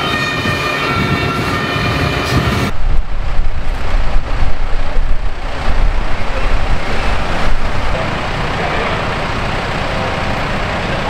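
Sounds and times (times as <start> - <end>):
diesel engine rumbling: 0.0 - 11.0
wind buffeting microphone: 0.0 - 11.0.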